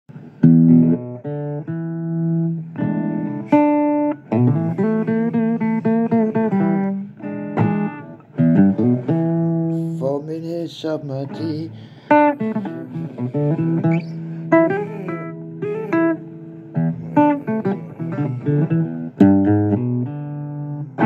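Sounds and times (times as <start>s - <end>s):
blues guitar playing: 0.1s - 21.0s.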